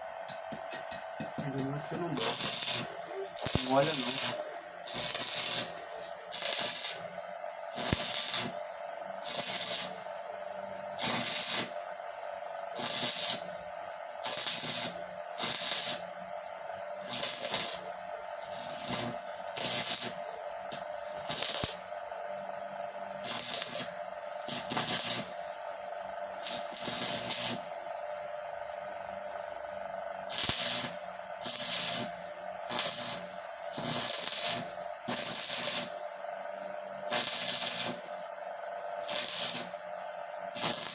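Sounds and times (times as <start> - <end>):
steady hum: 0.0 - 40.9
welding arc crackling and hissing: 0.0 - 40.9.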